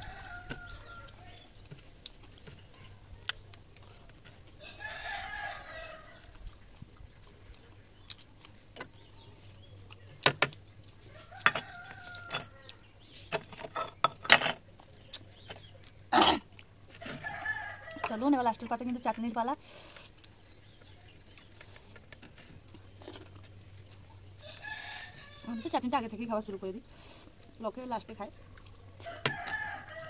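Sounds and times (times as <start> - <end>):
chickens calling: 0.0 - 30.0.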